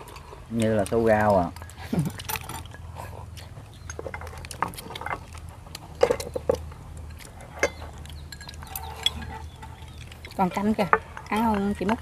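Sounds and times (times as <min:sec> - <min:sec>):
chopsticks clicking on bowls: 0:00.0 - 0:12.0
low steady background hum: 0:00.0 - 0:12.0.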